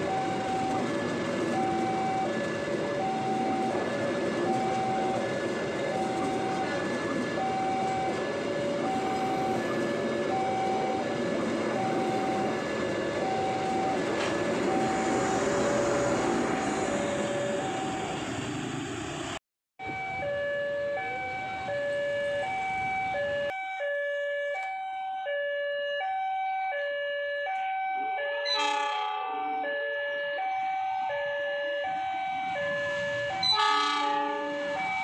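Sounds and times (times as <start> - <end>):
level crossing alarm two tones: 0.0 - 15.6, 19.8 - 35.0
passing train rumbling: 0.0 - 23.6, 28.4 - 35.0.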